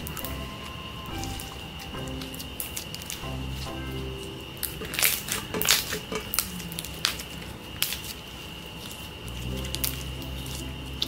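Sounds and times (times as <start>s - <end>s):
slime squelching and popping: 0.0s - 11.0s.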